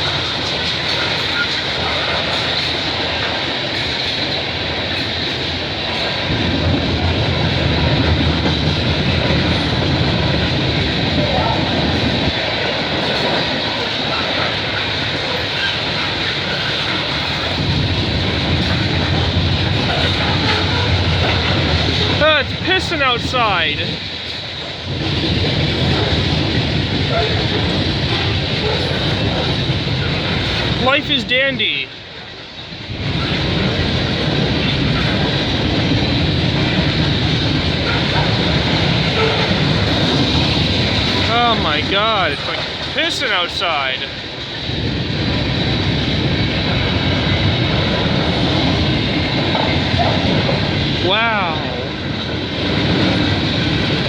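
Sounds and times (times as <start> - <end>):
heavy rain falling: 0.0 - 24.2, 33.0 - 54.0
freight train wheels on rails: 0.0 - 54.0.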